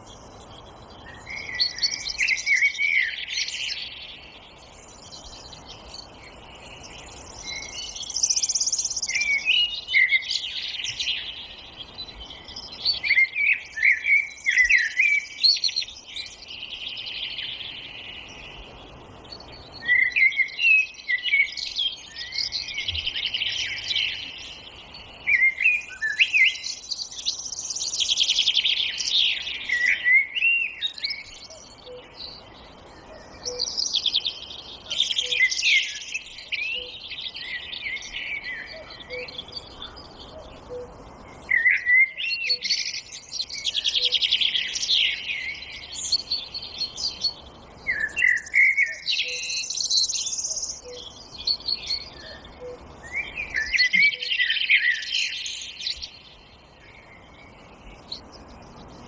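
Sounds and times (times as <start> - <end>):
faint steady background hiss: 0.0 - 59.0
songbirds singing: 0.0 - 59.0.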